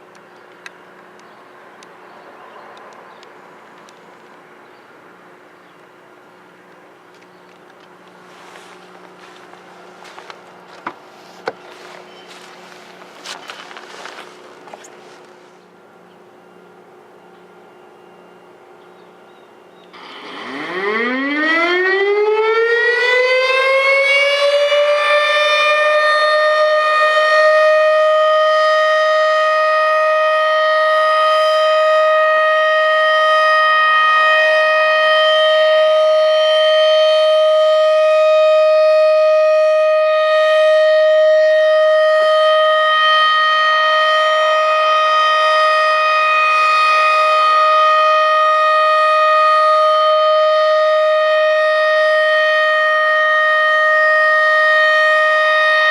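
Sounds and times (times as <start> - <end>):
outdoor warning siren: 7.8 - 55.9.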